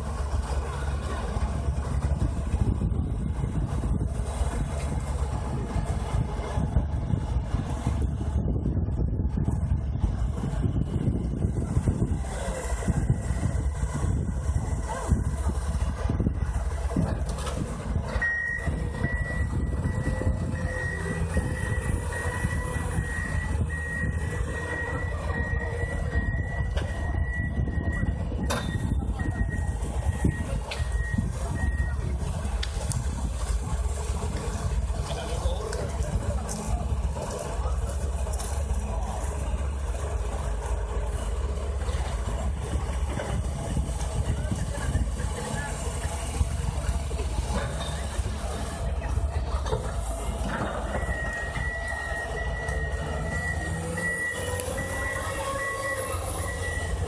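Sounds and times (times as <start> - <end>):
hydraulic crane working: 0.0 - 57.0
low engine rumble: 0.0 - 57.0.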